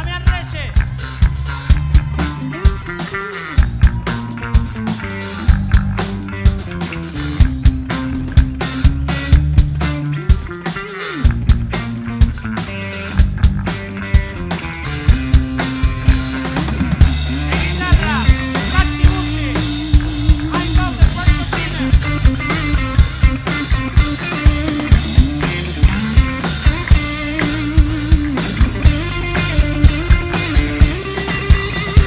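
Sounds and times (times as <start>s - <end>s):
bass line: 0.0s - 32.0s
drum kit beat: 0.0s - 32.0s.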